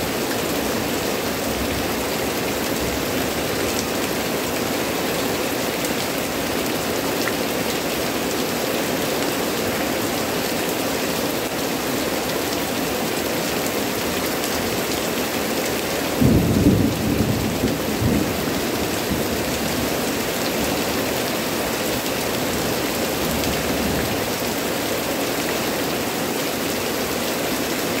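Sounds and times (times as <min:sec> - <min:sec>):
heavy rain on leaves: 0:00.0 - 0:28.0.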